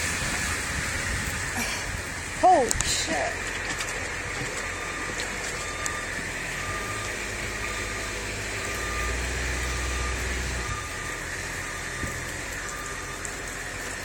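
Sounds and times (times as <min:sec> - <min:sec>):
truck engine rumble: 0:00.0 - 0:14.0
truck backup alarm beeping: 0:00.2 - 0:01.2, 0:03.0 - 0:14.0.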